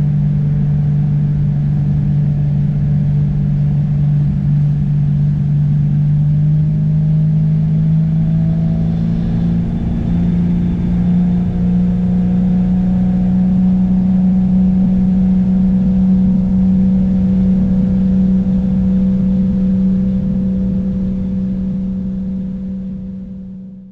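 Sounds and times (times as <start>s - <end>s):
boat motor running: 0.0s - 23.9s.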